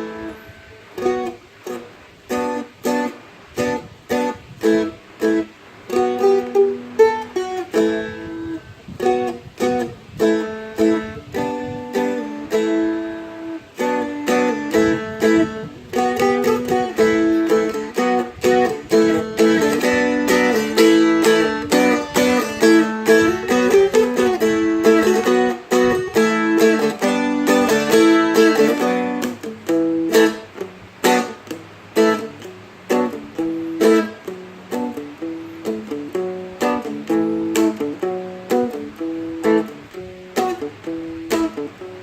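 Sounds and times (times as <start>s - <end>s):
strumstick strummed and picked: 0.0s - 42.0s.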